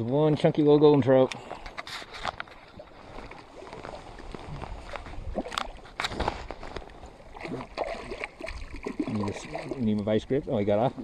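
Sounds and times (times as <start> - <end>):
water lapping against rocks: 0.0 - 11.0.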